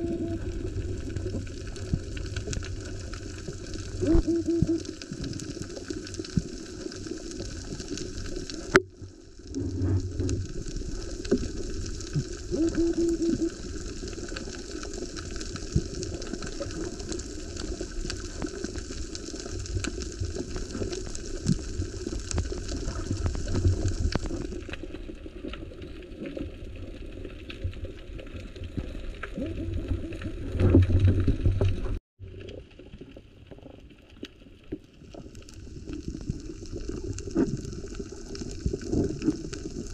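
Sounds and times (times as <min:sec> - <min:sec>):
low underwater rumble: 0:00.0 - 0:39.9
underwater rushing bubbling water: 0:00.0 - 0:39.9.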